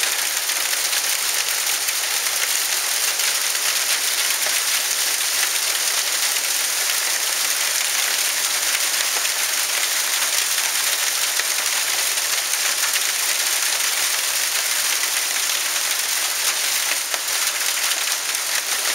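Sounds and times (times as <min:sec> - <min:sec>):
hailstones pelting ground: 0:00.0 - 0:18.9.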